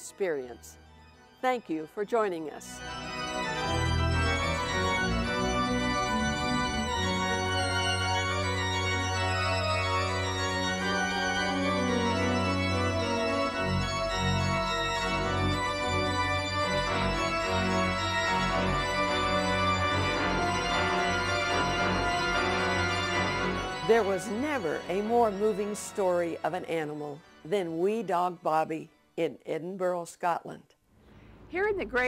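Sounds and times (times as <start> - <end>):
pipe organ chords: 0.0 - 29.1.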